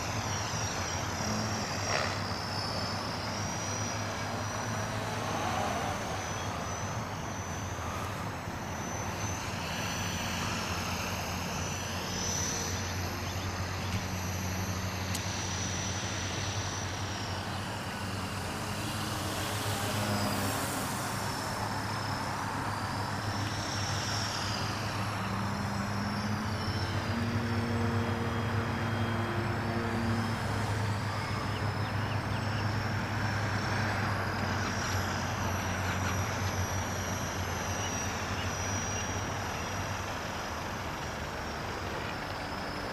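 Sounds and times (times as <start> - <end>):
model airplane motor whining: 0.0 - 42.9
steady low hum: 0.0 - 42.9.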